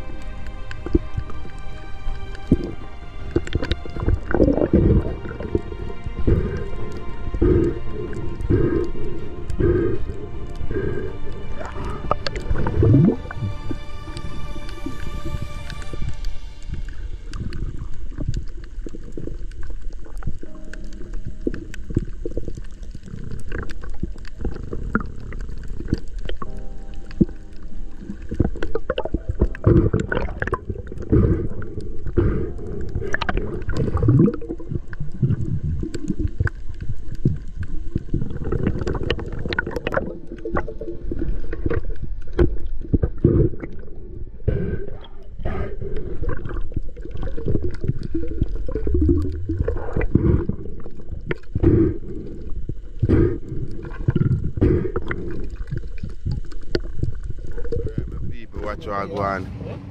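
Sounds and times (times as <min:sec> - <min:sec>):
water rushing and gurgling underwater: 0:00.0 - 0:59.9.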